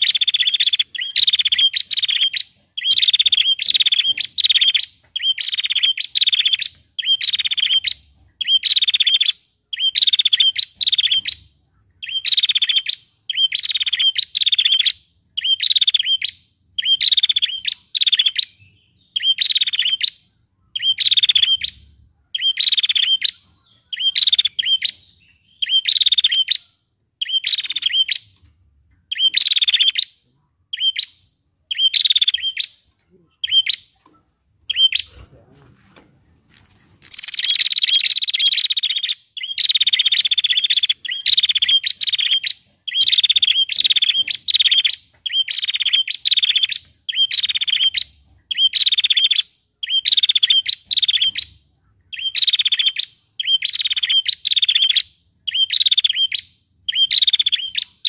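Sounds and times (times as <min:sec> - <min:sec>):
bird buzzy trilling call: 0:00.0 - 0:28.4, 0:29.0 - 0:34.0, 0:34.7 - 0:35.4, 0:37.0 - 0:58.0.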